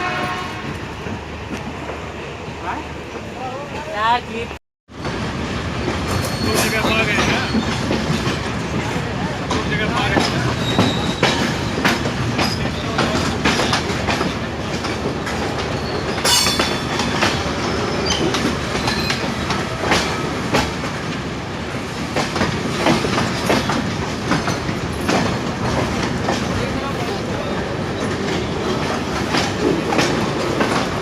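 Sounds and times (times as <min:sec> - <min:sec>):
train rumble: 0:00.0 - 0:31.0
train wheels clattering over rail joints: 0:05.8 - 0:31.0.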